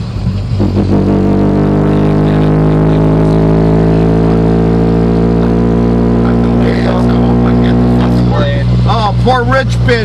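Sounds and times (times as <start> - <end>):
loud car engine droning: 0.0 - 10.0.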